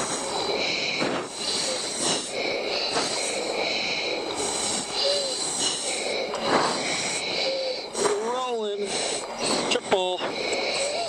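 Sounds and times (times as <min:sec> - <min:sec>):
breathing through oxygen mask: 0:00.0 - 0:11.0.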